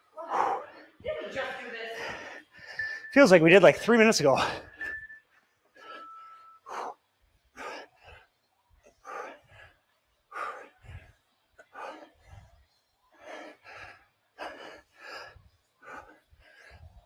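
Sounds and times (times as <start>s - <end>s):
people breathing hard: 0.0s - 3.3s, 4.2s - 17.0s.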